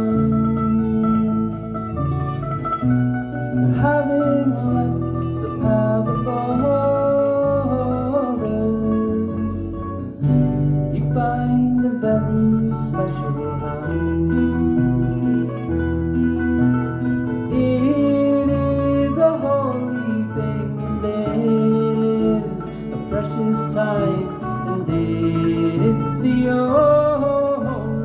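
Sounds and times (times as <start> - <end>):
bass guitar: 0.0 - 28.0
mandolin: 0.0 - 28.0
strummed acoustic guitars: 0.0 - 28.0.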